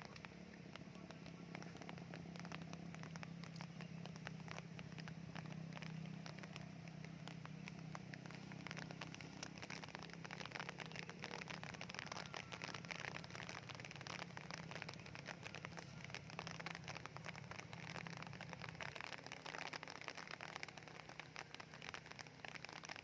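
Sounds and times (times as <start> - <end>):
raindrops dripping: 0.0 - 23.0.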